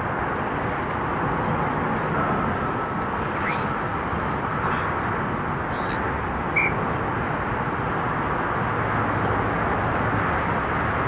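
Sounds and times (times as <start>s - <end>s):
traffic and wind noise: 0.0s - 11.0s.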